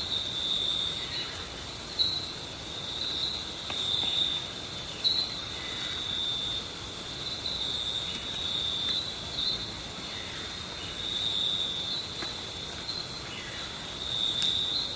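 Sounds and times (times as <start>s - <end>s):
insects chirring: 0.0s - 14.9s.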